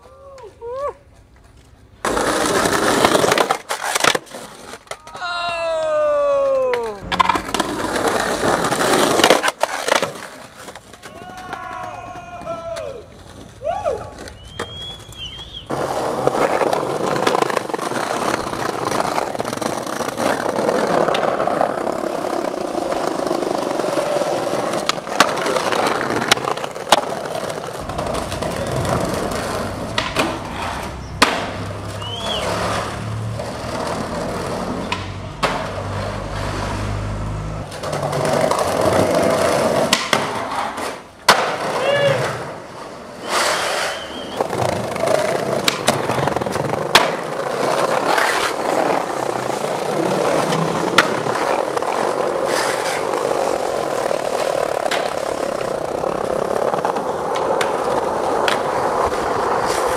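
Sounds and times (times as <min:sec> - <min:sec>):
skateboard wheels rolling on concrete: 0:00.0 - 0:59.9
skateboard clacks: 0:01.4 - 0:36.7, 0:37.6 - 0:59.9.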